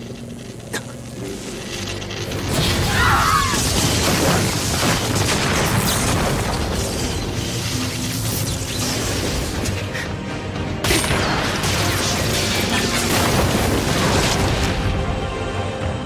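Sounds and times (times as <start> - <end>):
background music: 1.6 - 16.0.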